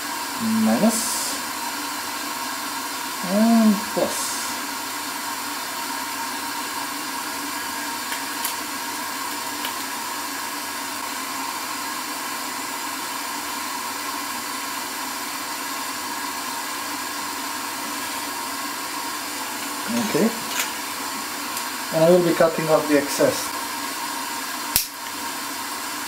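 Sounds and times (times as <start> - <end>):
small fan whirring: 0.0 - 26.0.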